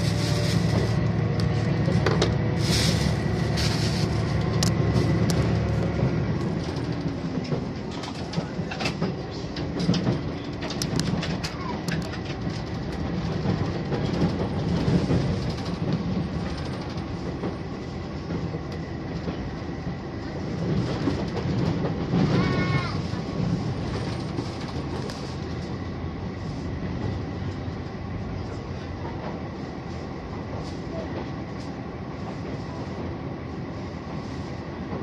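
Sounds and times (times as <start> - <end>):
train engine drone: 0.0 - 35.0.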